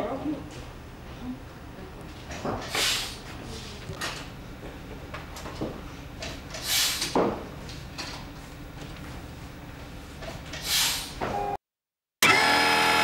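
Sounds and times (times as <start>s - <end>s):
workroom hum: 0.0s - 11.6s, 12.2s - 13.0s.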